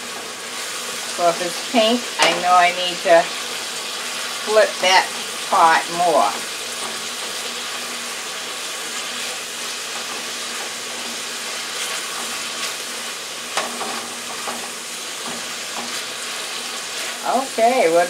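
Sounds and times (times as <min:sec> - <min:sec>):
ground beef sizzling: 0:00.0 - 0:18.0
spatula scraping skillet: 0:00.0 - 0:18.0.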